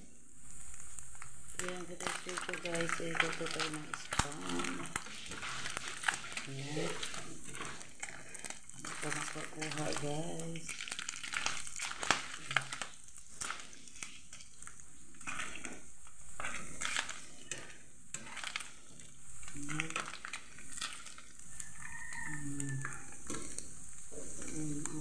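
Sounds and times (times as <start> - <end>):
meat sizzling in hot oil: 0.3 - 25.0
tongs clicking and scraping pan: 0.8 - 23.7.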